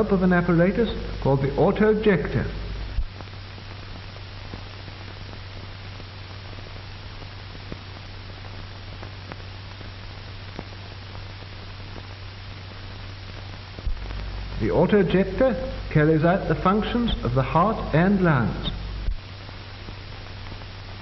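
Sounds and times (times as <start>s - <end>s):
film soundtrack hiss and hum: 0.0s - 21.0s
faint crackles: 2.4s - 21.0s.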